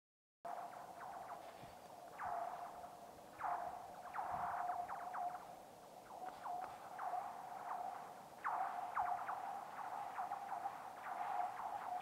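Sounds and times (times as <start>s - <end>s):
lake ice singing with laser-like chirps: 0.5s - 12.0s.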